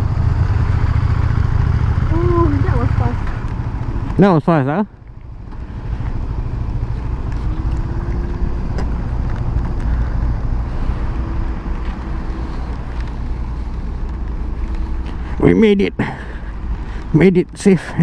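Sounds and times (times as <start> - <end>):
motorcycle engine: 0.0 - 17.7
road noise: 0.0 - 18.0.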